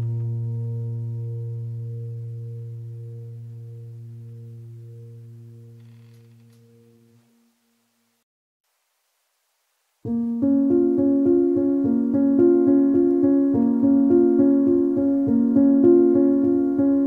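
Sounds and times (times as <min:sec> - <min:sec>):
keyboard music with steady pulse: 0:00.0 - 0:07.4, 0:10.1 - 0:17.0.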